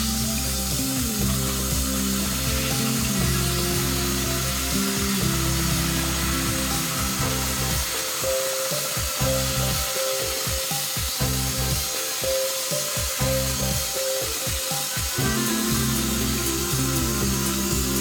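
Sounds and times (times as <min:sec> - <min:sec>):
background music with a beat: 0:00.0 - 0:18.0
saw blade cutting wood: 0:00.0 - 0:18.0.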